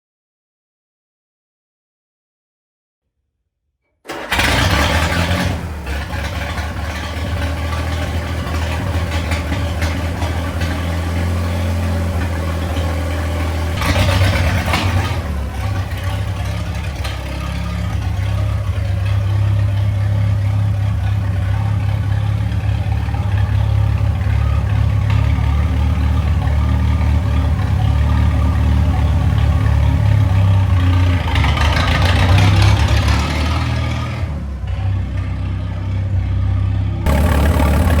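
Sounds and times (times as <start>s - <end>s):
tractor engine running: 4.1s - 36.3s, 37.0s - 38.0s.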